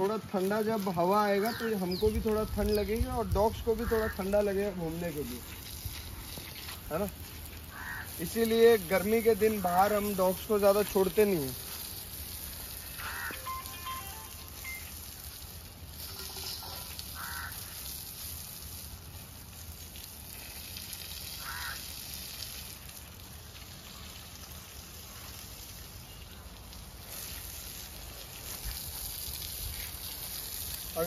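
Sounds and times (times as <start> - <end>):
water spraying from hose onto soil: 0.0 - 31.0.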